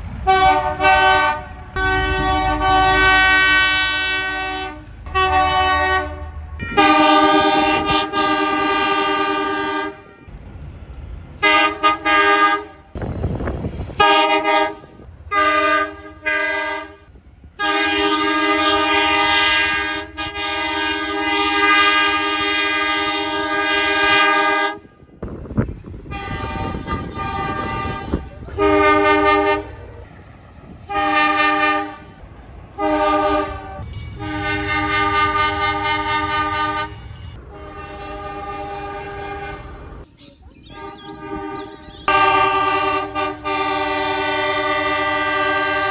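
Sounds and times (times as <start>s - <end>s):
locomotive horn blasts: 0.2s - 25.2s, 26.0s - 29.9s, 30.9s - 32.2s, 32.8s - 40.1s, 40.7s - 45.9s.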